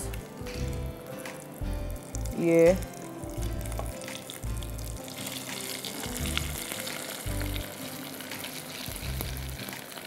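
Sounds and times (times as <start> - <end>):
background music: 0.0 - 10.0
oil sizzling: 0.0 - 10.0.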